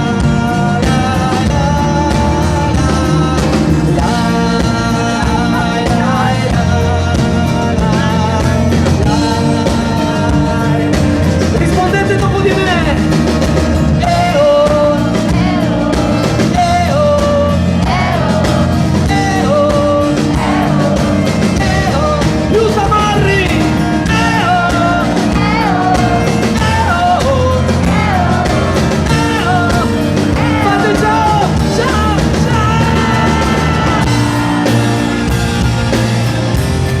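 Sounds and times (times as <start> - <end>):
live pop-rock band playing: 0.0 - 37.0
wavering melodic lead line: 0.0 - 37.0.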